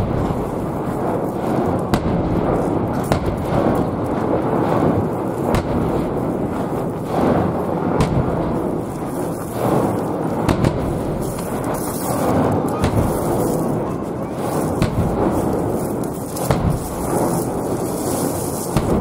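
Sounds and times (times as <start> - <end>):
rumble of firework booms: 0.0 - 19.0
sharp firework cracks: 0.0 - 19.0.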